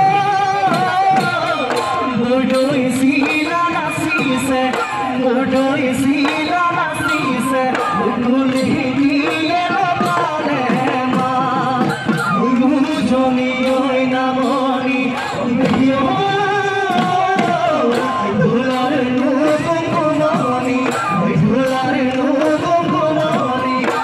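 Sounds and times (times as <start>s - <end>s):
drums beating fast rhythm: 0.0s - 24.0s
person singing folk song: 0.0s - 24.0s.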